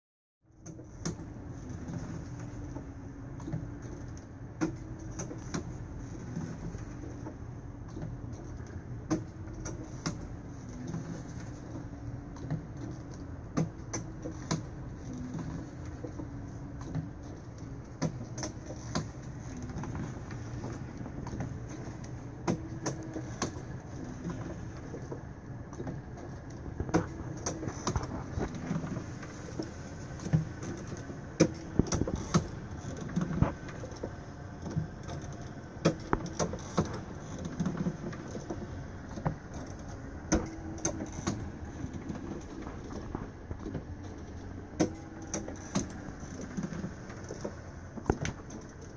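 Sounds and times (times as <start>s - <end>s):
clicks and knocks of moving parts: 0.6s - 48.9s.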